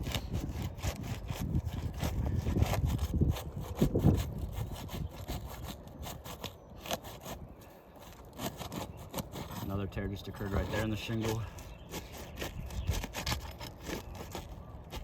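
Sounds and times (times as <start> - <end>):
shingle scraping and tearing: 0.0 - 15.0.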